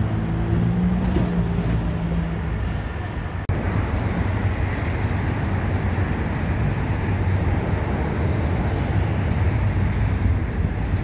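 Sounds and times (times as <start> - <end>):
freight train cars rolling: 0.0 - 11.0.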